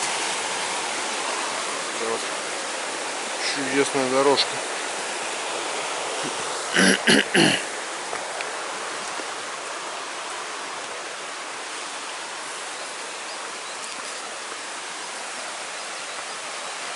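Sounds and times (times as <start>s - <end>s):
rushing water: 0.0s - 16.9s.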